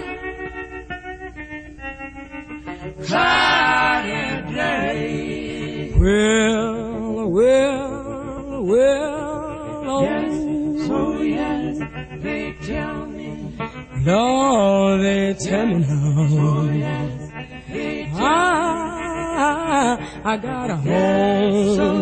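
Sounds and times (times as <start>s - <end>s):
person singing with vibrato: 3.0s - 22.0s.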